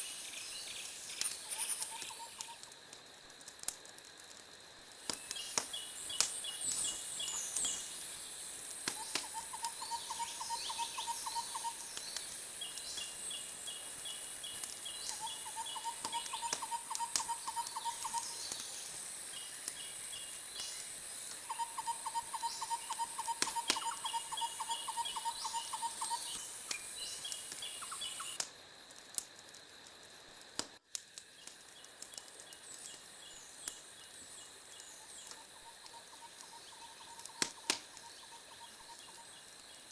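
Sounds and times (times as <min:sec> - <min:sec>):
steady high hiss: 0:00.0 - 0:39.9
wood fire crackling and popping: 0:00.2 - 0:10.2, 0:11.2 - 0:21.5, 0:22.9 - 0:24.3, 0:25.9 - 0:39.7.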